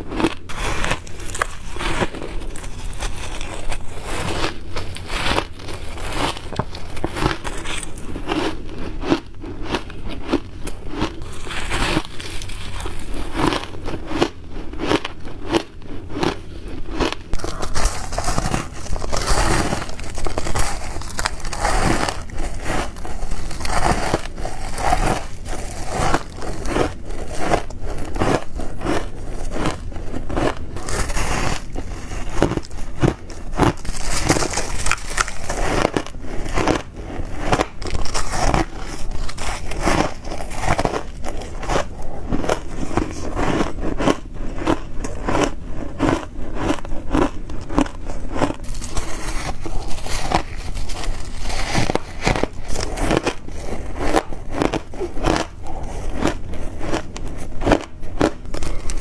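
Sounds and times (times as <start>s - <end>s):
ice crunching being chewed: 0.0s - 59.0s.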